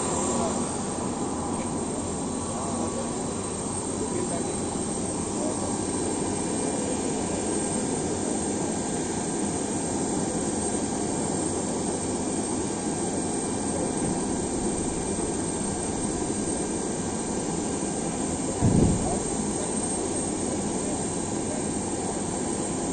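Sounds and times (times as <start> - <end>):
jet engine running: 0.0 - 22.9.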